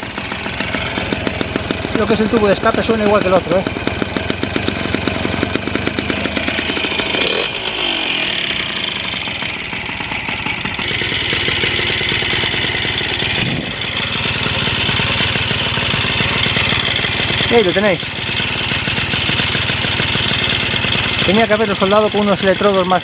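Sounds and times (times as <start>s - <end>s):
moped engine revving: 0.0s - 23.0s.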